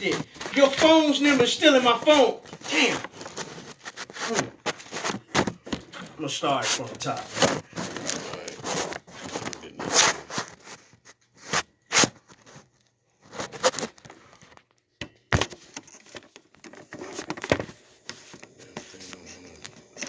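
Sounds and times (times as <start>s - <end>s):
handling scrapes and rustles: 0.0s - 14.6s, 15.4s - 20.0s.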